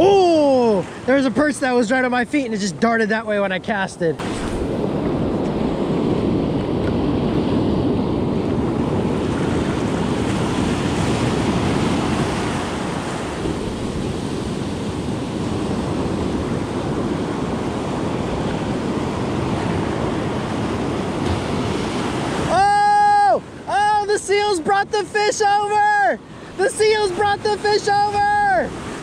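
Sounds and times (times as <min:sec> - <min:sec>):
ocean surf breaking: 0:00.0 - 0:29.0
wind buffeting microphone: 0:04.2 - 0:29.0.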